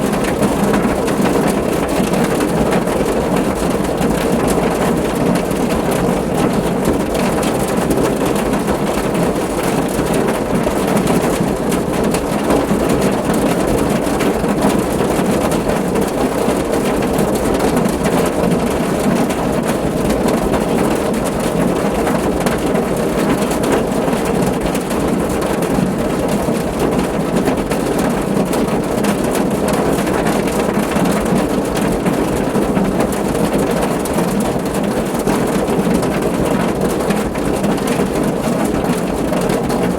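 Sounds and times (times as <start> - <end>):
heavy rain on a car roof: 0.0 - 39.9.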